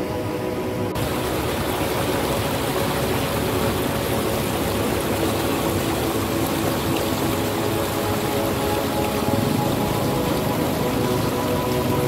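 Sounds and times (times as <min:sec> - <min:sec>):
stream water rushing over rocks: 0:00.0 - 0:12.0.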